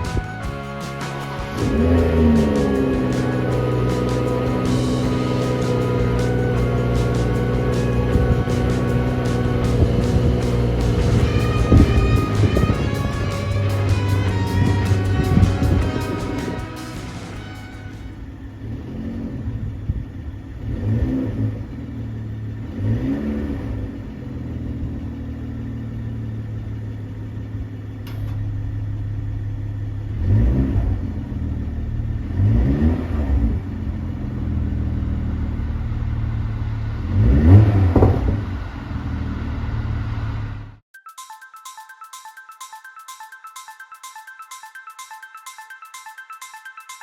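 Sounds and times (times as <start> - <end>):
car engine idling and revving: 1.1 - 40.8.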